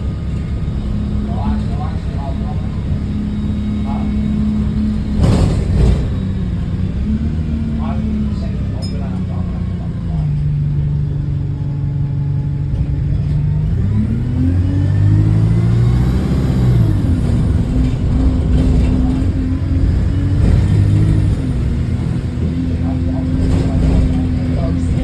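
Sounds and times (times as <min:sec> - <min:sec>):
bus engine accelerating: 0:00.0 - 0:25.0.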